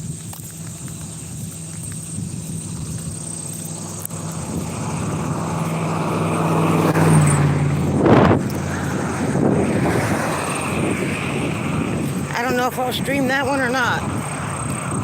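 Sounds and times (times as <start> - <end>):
motor vehicle passing: 0.0 - 15.0.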